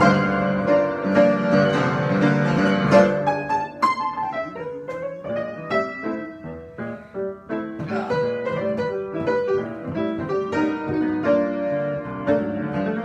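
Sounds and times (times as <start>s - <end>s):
solo piano improvisation: 0.0s - 13.0s.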